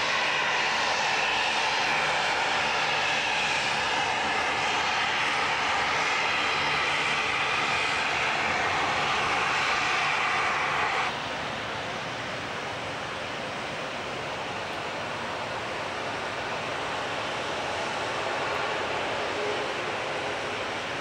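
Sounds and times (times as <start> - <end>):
propeller hum with turbine whine: 0.0 - 21.0.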